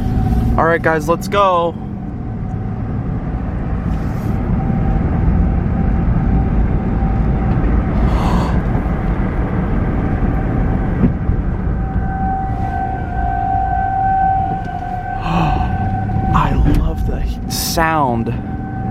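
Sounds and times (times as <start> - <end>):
distant warning siren: 0.0 - 18.9
vehicle rumble: 0.0 - 18.9.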